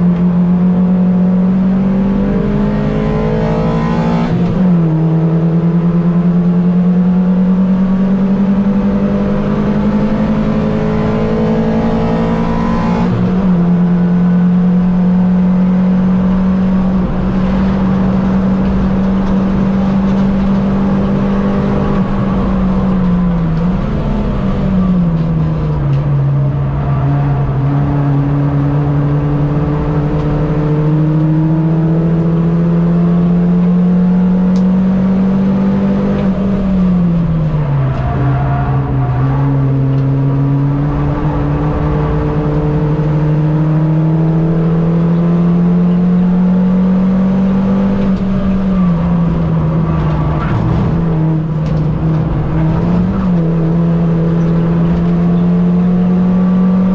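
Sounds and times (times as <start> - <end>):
racing car engine at high revs: 0.0 - 56.9.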